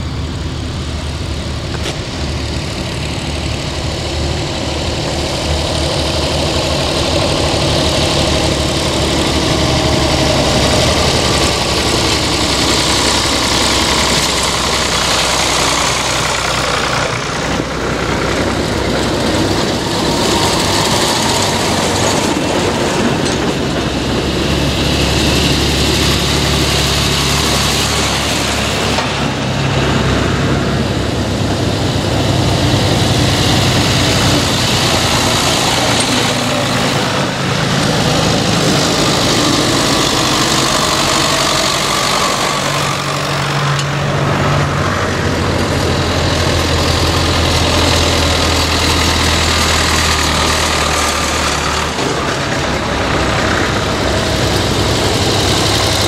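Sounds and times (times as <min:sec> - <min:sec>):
tractor diesel engines passing: 0:00.0 - 0:56.0.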